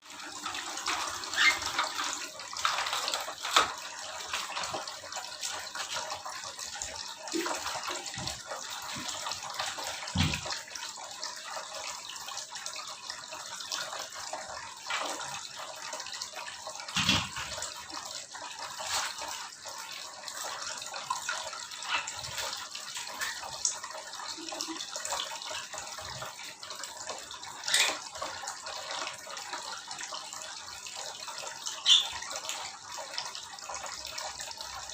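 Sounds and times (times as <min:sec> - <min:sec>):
running splashing water: 0:00.0 - 0:34.9.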